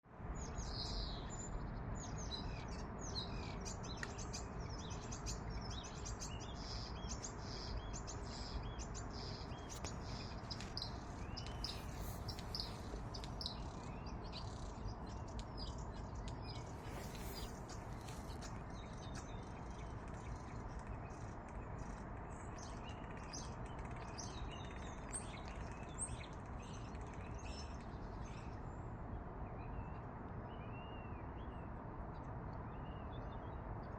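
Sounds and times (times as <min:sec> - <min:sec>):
bird chirping: 0:00.4 - 0:28.7.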